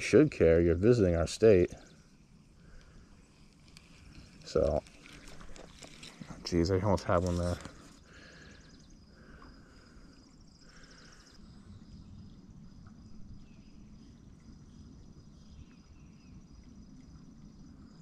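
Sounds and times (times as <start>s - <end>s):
pulsing insect trill: 0.0s - 18.0s.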